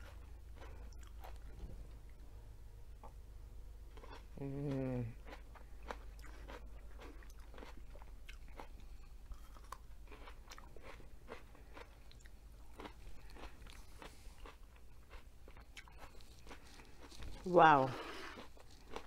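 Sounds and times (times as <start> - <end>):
person chewing crunchy food: 0.0 - 2.2, 3.9 - 19.0.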